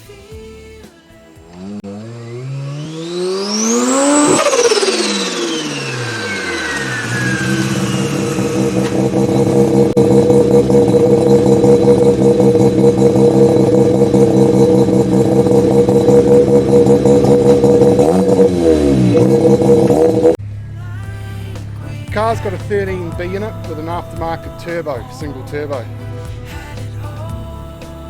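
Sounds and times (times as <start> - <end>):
rotary engine revving and idling: 1.3 - 28.0.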